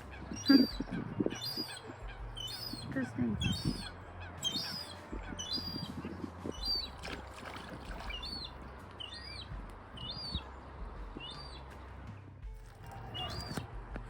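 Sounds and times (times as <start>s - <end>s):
seagull crying: 0.0s - 11.6s, 12.9s - 13.7s.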